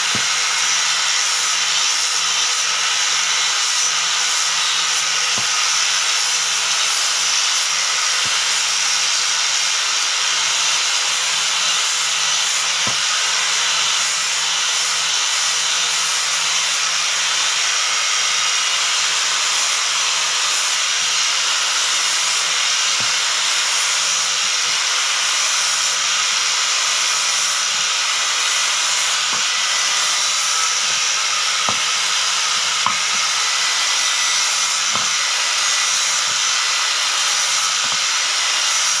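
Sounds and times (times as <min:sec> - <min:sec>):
angle grinder grinding wood: 0:00.0 - 0:39.0.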